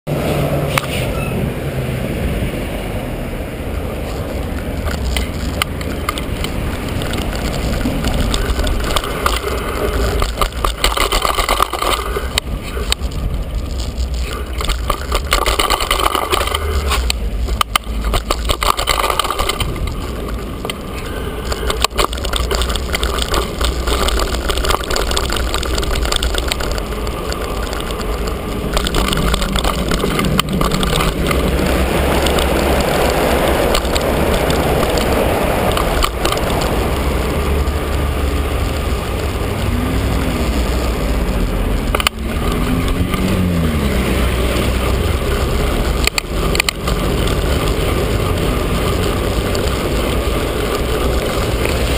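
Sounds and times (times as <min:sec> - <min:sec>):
bike and camera rattling: 0:00.1 - 0:01.5, 0:03.2 - 0:51.9
tyres rumbling on pavement: 0:00.1 - 0:51.9
wind buffeting camera: 0:00.5 - 0:51.9.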